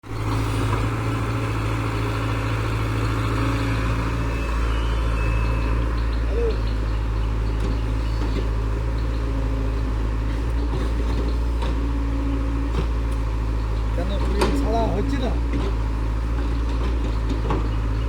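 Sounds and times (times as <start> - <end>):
diesel engine low drone: 0.0 - 18.0.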